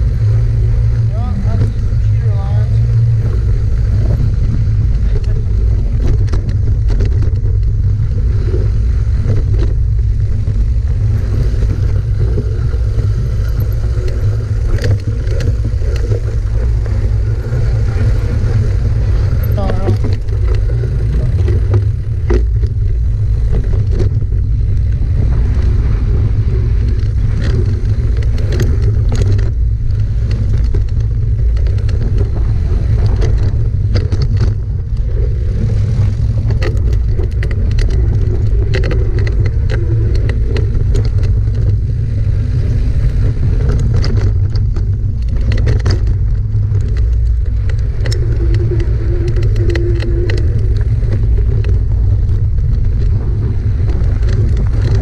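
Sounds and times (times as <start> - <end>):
bike rattling over rocks: 0.0 - 55.0
wind buffeting microphone: 0.0 - 55.0.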